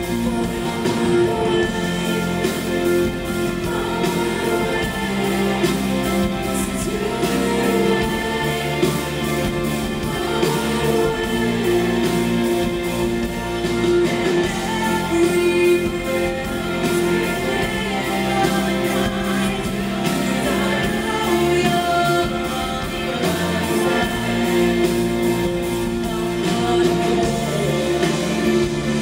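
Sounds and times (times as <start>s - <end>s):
man singing into microphone: 0.0s - 13.0s, 14.0s - 29.0s
band accompaniment: 0.0s - 29.0s.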